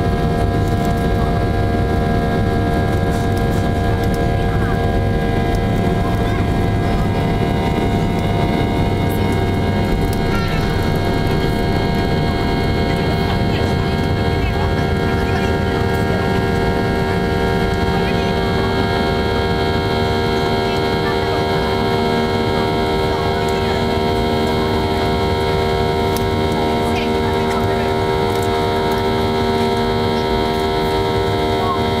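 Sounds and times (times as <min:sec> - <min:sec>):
jet engine drone in cabin: 0:00.0 - 0:32.0.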